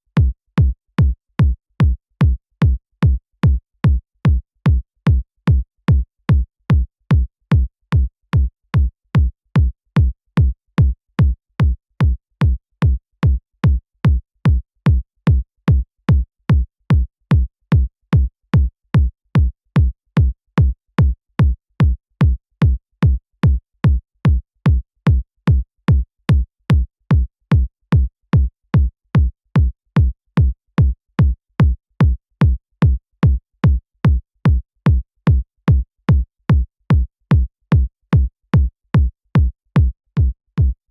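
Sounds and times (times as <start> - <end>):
electronic kick drum: 0.2 - 40.9.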